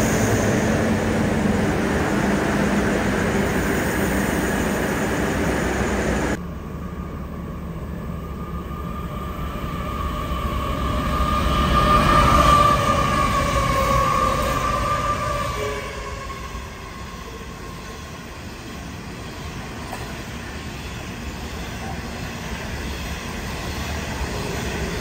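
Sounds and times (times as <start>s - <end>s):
diesel locomotives rumbling: 0.0s - 25.0s
railcar wheel-on-rail noise: 0.0s - 25.0s.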